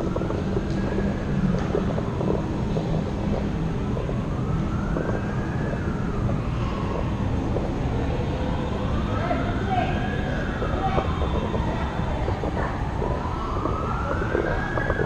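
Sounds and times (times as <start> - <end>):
siren wailing: 0.0 - 15.0
steady low rumble: 0.0 - 15.0.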